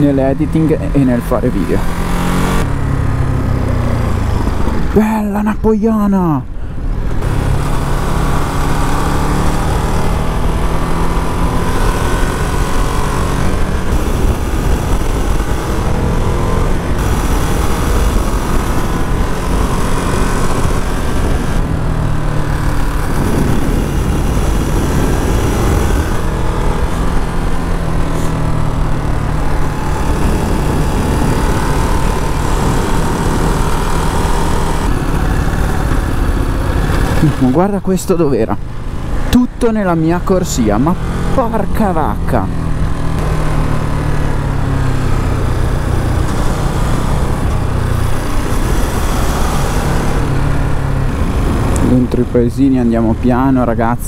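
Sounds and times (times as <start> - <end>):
motorcycle engine revving: 0.0 - 5.2, 7.0 - 54.0
wind and road rush: 0.0 - 54.0.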